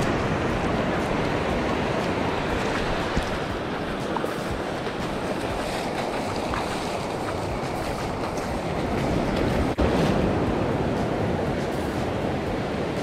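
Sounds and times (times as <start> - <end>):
surf washing over sand: 0.0 - 13.0
wind on microphone: 0.0 - 13.0.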